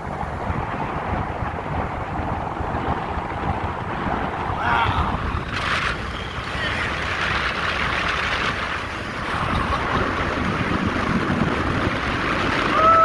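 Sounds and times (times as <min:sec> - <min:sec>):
rush of wind and water: 0:00.0 - 0:13.0
wind buffeting microphone: 0:00.0 - 0:13.0.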